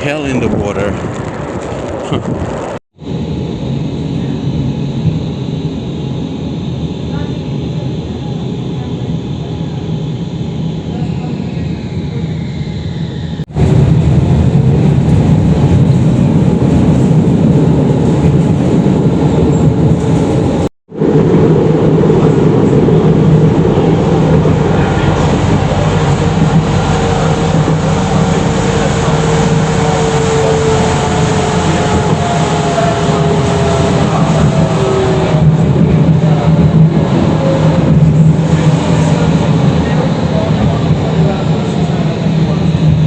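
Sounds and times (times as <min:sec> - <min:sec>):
tram rumbling: 0:00.0 - 0:43.0.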